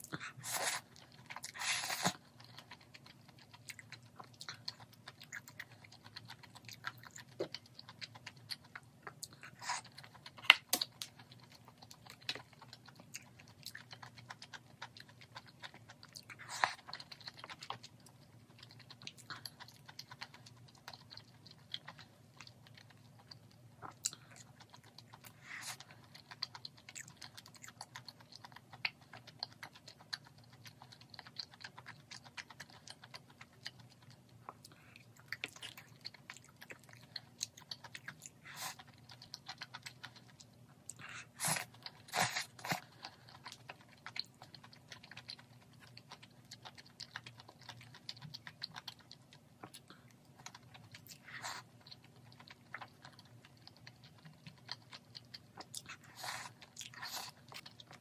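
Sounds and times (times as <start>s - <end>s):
close-up chewing: 0.0s - 58.0s
faint low hum: 0.0s - 58.0s.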